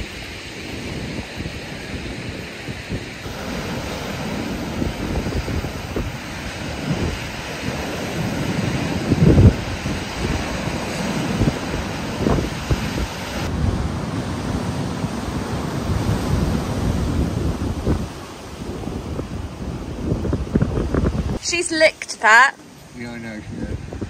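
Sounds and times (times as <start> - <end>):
wind buffeting microphone: 0.0 - 22.0, 22.8 - 24.0
sea waves breaking on beach: 0.0 - 24.0.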